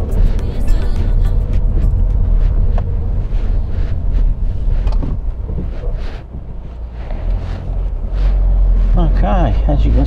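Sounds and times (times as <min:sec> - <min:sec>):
engine and tyres rumbling: 0:00.0 - 0:10.0.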